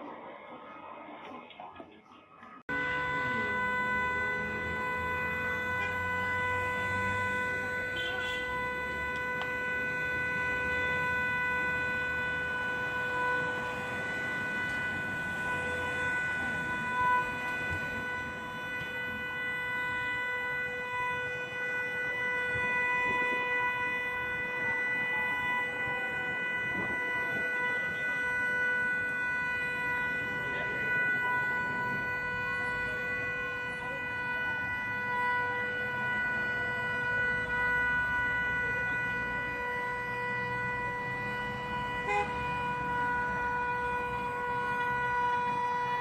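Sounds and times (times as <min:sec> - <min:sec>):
faint wailing sirens: 0:00.0 - 0:46.0
horn blaring steady tone: 0:02.6 - 0:46.0.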